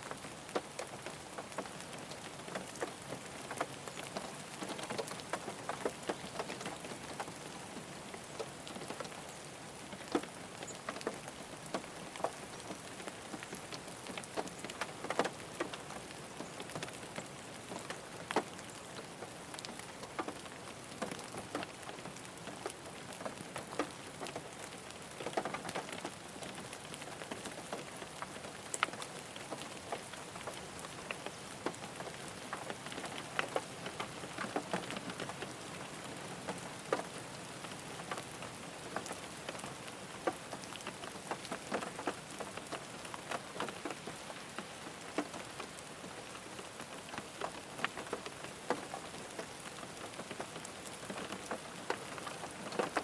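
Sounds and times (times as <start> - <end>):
rain falling on a car: 0.0 - 53.0
raindrops ticking on car body: 9.9 - 53.0.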